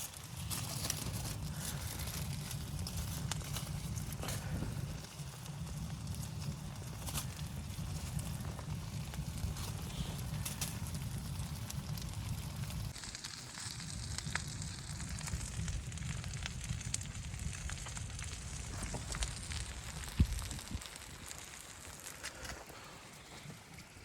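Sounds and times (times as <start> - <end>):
wood fire crackling and popping: 0.0 - 24.0
low wind rumble: 0.1 - 13.0, 13.8 - 24.0.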